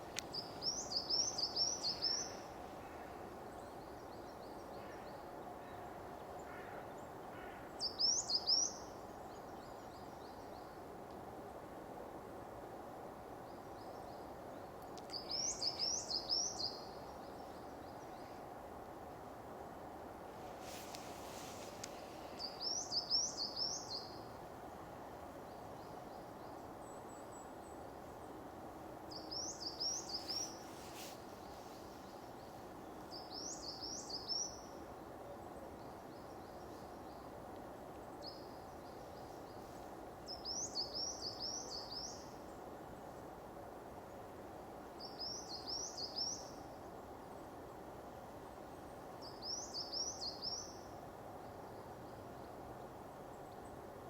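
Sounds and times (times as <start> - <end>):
woods background hiss: 0.0 - 54.0.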